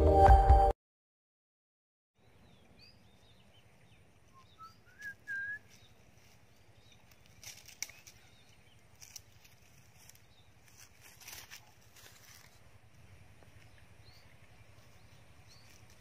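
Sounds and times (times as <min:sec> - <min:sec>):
birds chirping: 0:02.2 - 0:11.8, 0:12.5 - 0:16.0
faint outdoor ambience: 0:02.2 - 0:16.0.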